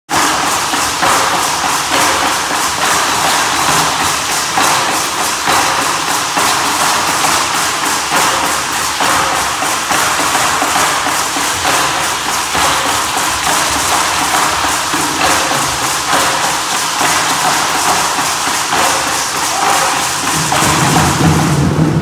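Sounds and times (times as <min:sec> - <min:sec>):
rhythmic rattle shaking: 0:00.1 - 0:22.0
steady drum beat: 0:00.1 - 0:22.0.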